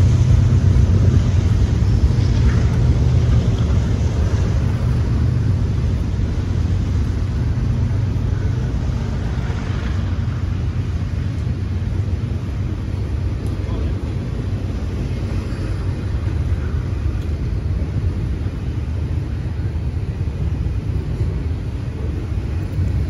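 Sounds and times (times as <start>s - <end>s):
diesel locomotive engine rumbling: 0.0s - 23.0s.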